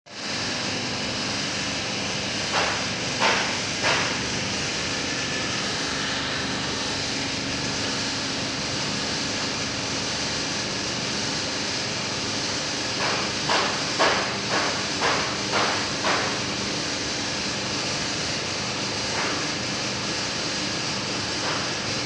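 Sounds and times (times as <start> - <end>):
mechanical running noise: 0.2 - 22.0.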